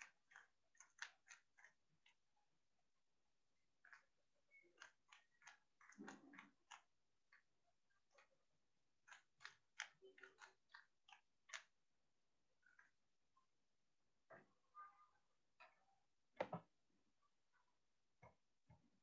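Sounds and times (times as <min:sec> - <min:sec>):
faint irregular clicks and taps: 0:00.0 - 0:14.7, 0:15.4 - 0:19.0.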